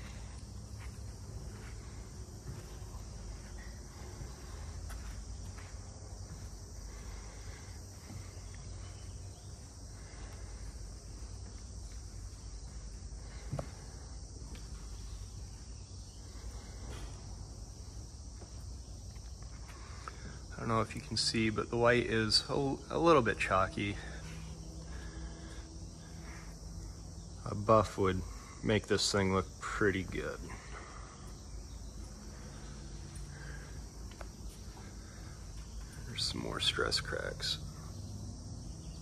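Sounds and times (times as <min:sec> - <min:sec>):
high buzz of insects: 0:00.0 - 0:39.0.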